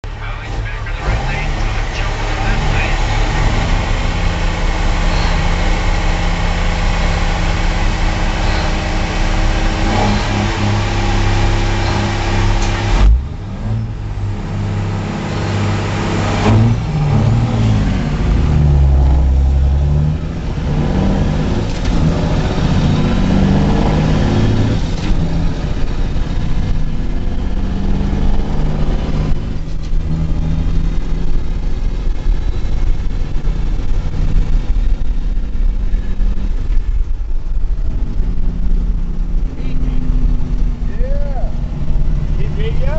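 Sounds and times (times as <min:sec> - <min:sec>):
truck engine running and revving: 0:00.0 - 0:42.9.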